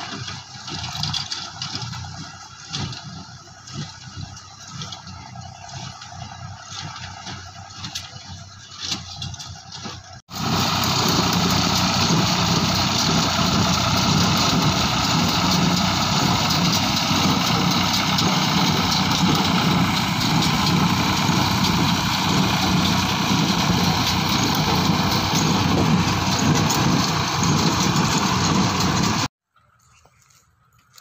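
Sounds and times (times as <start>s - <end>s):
tractor diesel engine running: 0.0s - 29.4s
baler baling dry leaves: 0.0s - 31.0s.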